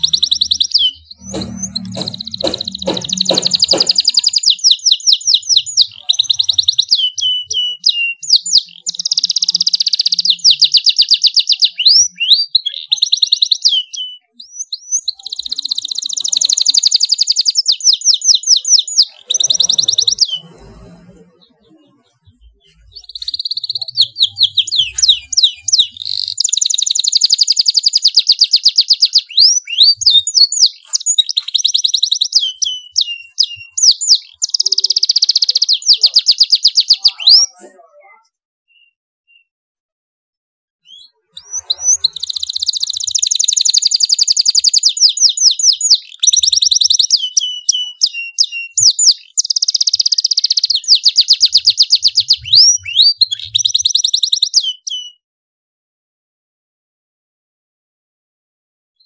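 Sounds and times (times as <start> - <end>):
canary singing trills: 0.0 - 39.5, 40.8 - 55.2.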